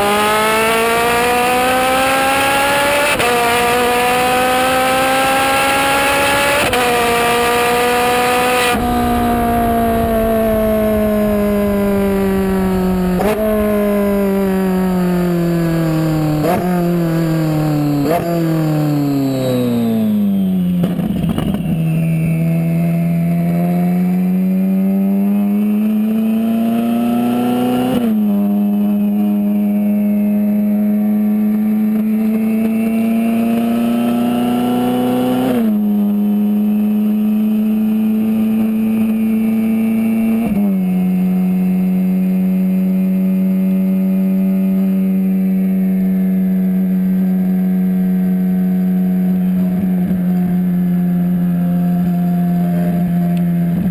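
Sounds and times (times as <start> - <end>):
car engine accelerating through gears: 0.0 - 53.9.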